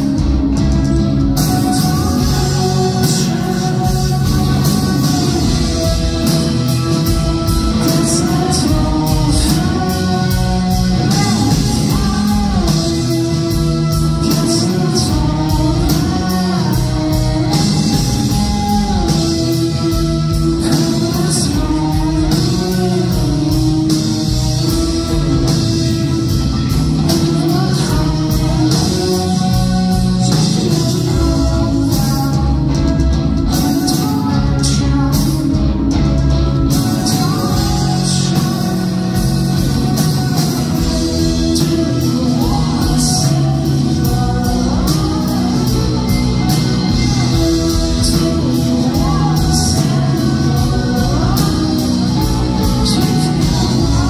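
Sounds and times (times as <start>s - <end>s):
bass guitar: 0.0s - 54.0s
drum kit: 0.0s - 54.0s
electric guitar: 0.0s - 54.0s
man singing: 0.0s - 54.0s.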